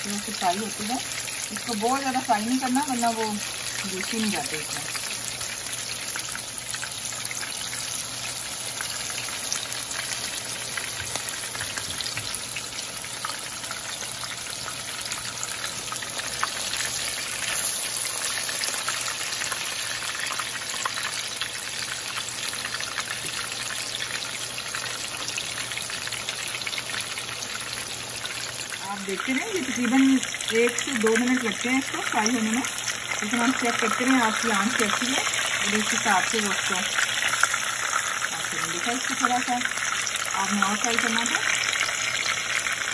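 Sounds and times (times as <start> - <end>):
meat sizzling in hot oil: 0.0 - 42.9.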